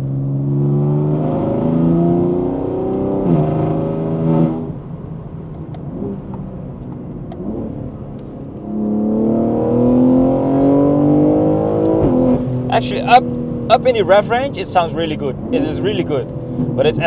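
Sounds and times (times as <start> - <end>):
raspy car engine revving: 0.0 - 4.9, 7.4 - 17.0.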